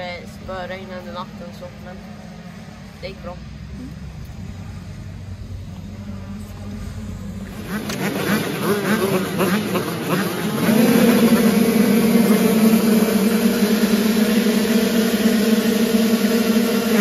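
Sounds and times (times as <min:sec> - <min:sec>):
motorbike engines revving: 0:00.0 - 0:17.0.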